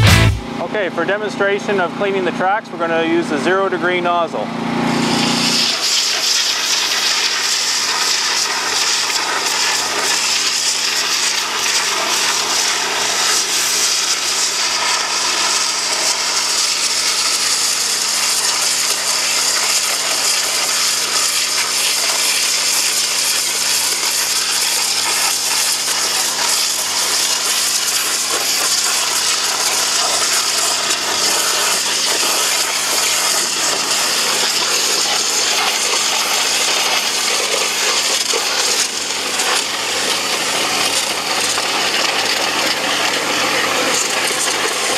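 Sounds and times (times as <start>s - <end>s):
gasoline engine running: 0.0s - 44.9s
pressure washer jet hissing: 0.0s - 44.9s.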